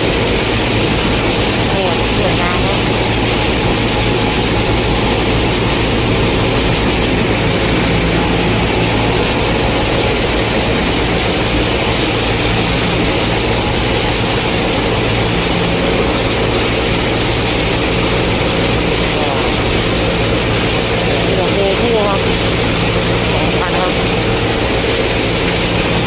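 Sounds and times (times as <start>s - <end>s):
combine harvester engine hum: 0.0s - 26.0s
threshing machinery noise: 0.0s - 26.0s.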